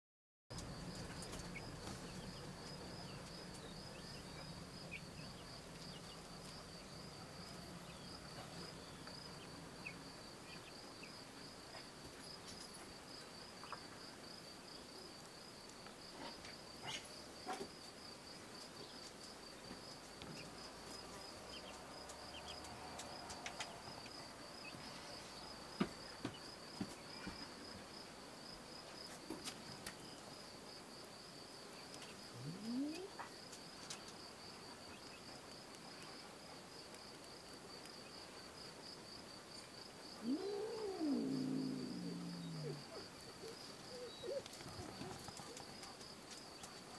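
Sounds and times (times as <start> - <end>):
cricket chirping: 0.6 - 46.9.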